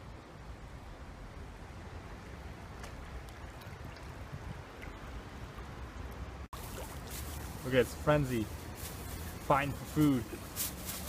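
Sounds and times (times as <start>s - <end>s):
faint water splashes: 1.6s - 11.0s.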